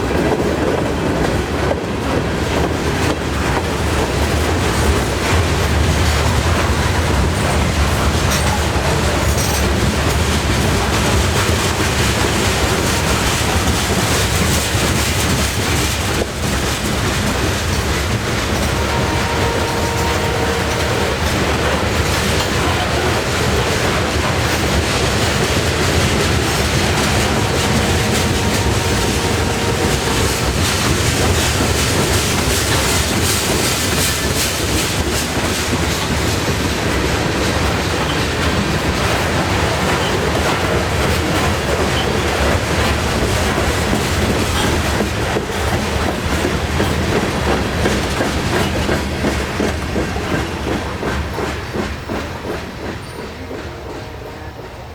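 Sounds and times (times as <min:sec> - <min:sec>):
wheels clicking over rail joints: 0:00.0 - 0:54.1
freight train rolling past: 0:00.0 - 0:54.9.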